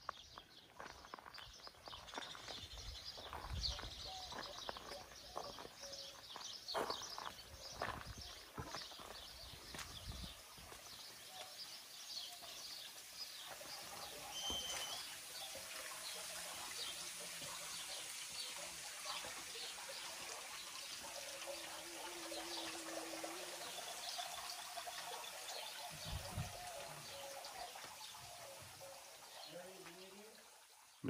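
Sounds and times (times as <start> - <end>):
small birds chirping: 0.0 - 31.0
fountain water trickling: 0.2 - 31.0.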